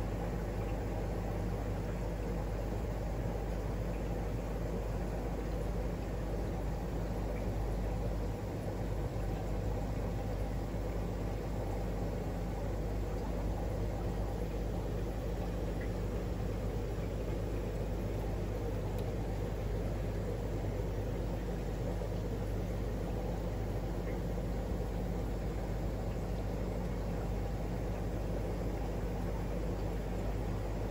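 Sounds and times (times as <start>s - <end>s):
aquarium pump humming: 0.0s - 30.9s.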